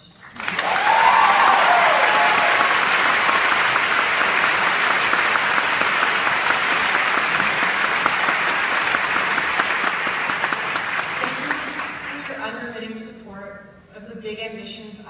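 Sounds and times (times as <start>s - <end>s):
audience applauding: 0.2s - 12.4s.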